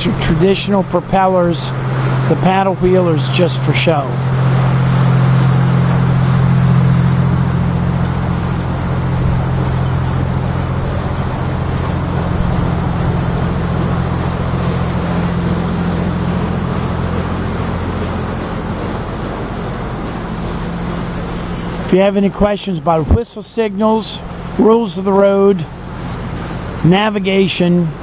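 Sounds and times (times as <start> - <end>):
boat engine droning: 0.0 - 28.0
water rushing: 0.0 - 28.0.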